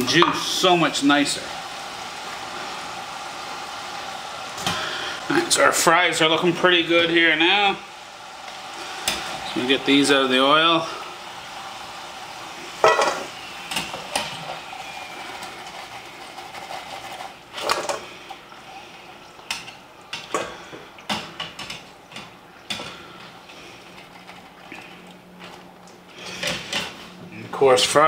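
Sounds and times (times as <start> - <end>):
frying oil hissing: 0.0 - 28.0.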